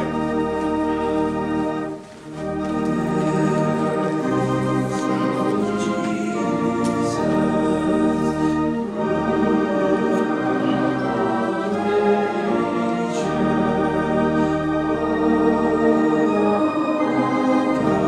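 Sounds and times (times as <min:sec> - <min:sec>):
organ playing slow chords: 0:00.0 - 0:18.0.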